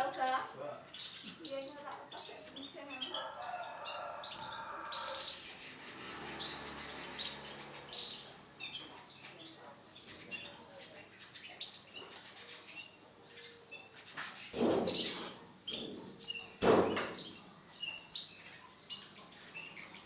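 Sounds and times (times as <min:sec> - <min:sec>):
canary chirping: 0:00.0 - 0:20.0.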